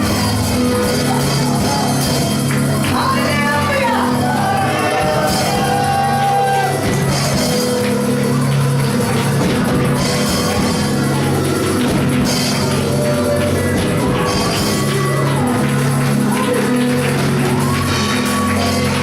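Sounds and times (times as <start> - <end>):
church band with drums: 0.0 - 19.0.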